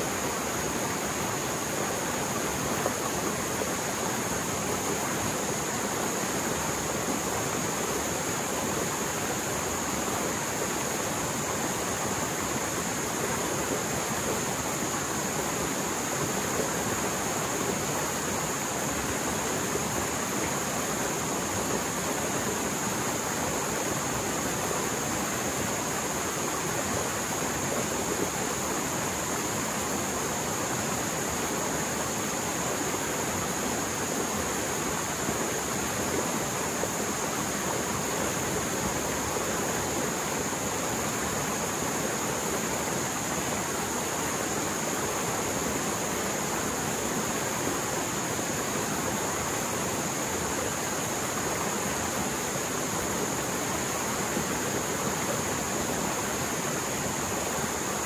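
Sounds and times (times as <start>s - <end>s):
rushing stream water: 0.0s - 58.0s.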